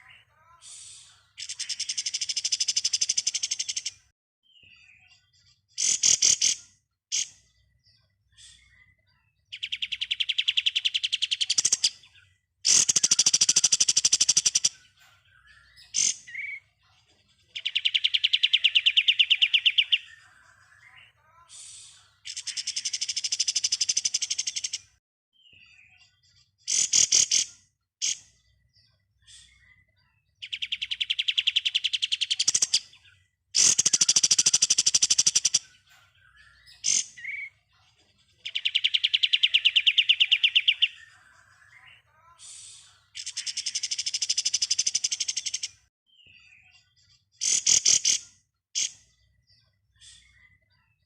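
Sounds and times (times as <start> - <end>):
short bird chirps: 0.0 - 51.0.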